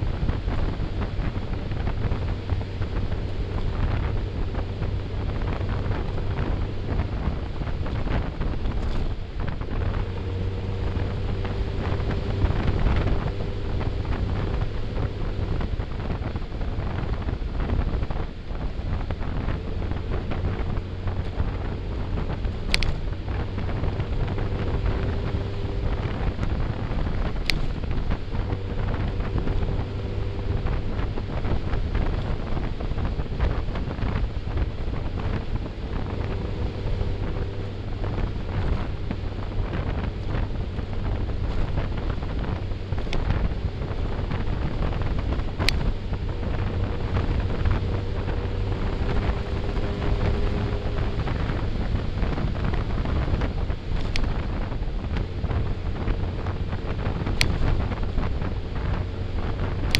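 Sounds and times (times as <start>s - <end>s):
motorcycle engine humming: 0.0s - 59.9s
wind buffeting microphone: 0.0s - 59.9s.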